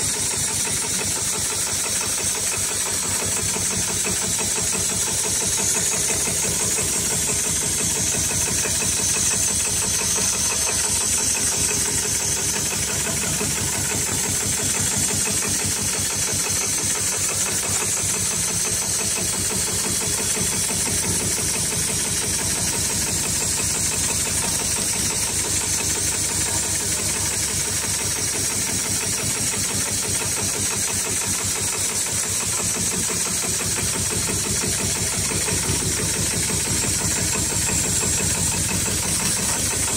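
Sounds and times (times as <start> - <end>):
sewing machine stitching: 0.0 - 39.9.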